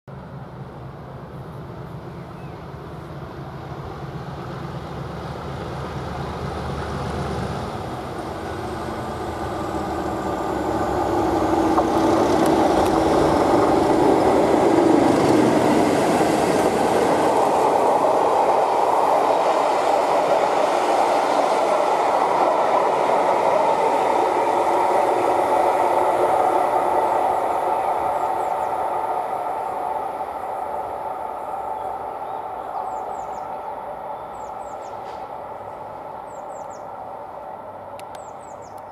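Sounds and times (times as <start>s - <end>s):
diesel locomotive engine rumble: 0.1s - 38.9s
train passing on rails: 0.1s - 38.9s.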